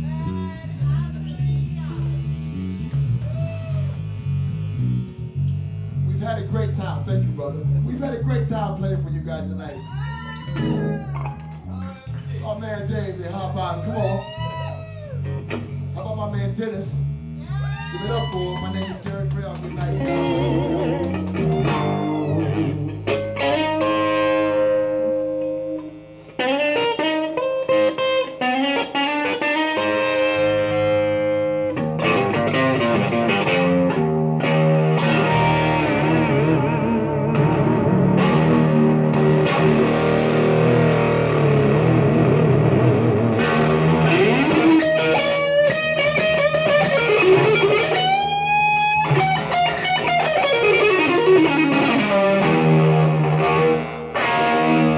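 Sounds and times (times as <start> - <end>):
electric bass: 0.0 - 54.9
electric guitar playing blues-rock: 0.0 - 54.9.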